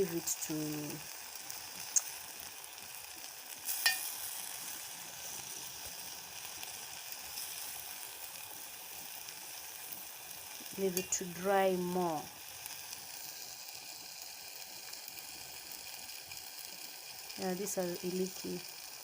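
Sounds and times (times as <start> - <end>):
pan sizzling: 0.0 - 19.0.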